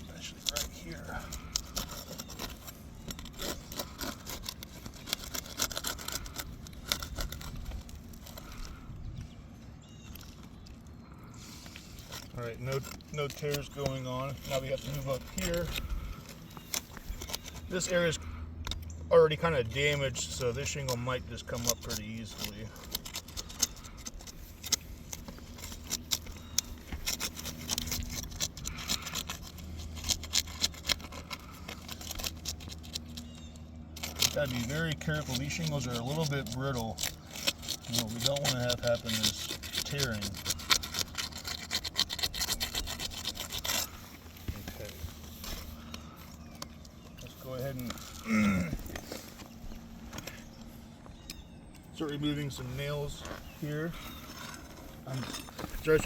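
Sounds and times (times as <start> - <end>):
roof shingle tearing and crackling: 0.0 - 56.0
steady low hum: 0.0 - 56.0.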